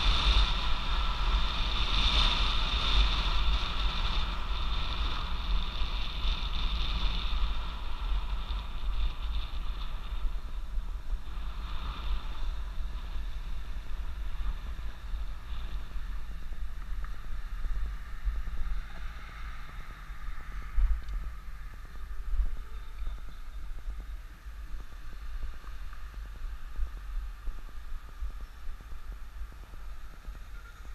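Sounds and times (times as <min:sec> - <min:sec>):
tyre and road noise: 0:00.0 - 0:30.9
wind rushing over microphone: 0:00.0 - 0:30.9.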